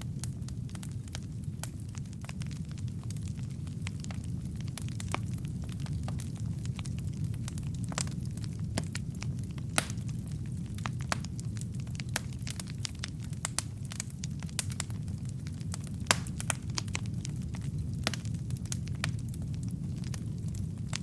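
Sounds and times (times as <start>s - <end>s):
fire rumbling: 0.0s - 21.0s
logs crackling and popping: 0.0s - 21.0s.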